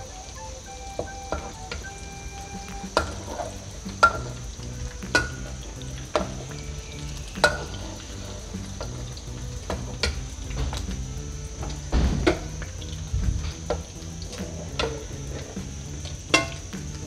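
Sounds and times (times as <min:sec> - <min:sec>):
food sizzling in hot oil: 0:00.8 - 0:17.0.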